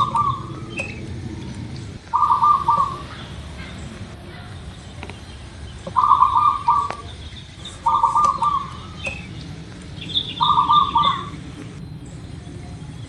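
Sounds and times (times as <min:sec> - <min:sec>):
dove cooing: 0:00.0 - 0:13.0
small bird chirping: 0:00.0 - 0:13.0.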